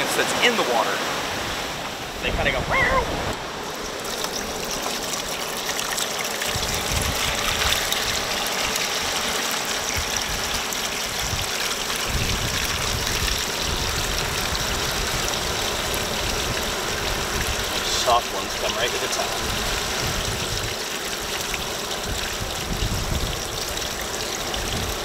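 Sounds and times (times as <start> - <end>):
water pouring into a metal colander: 3.6 - 25.0.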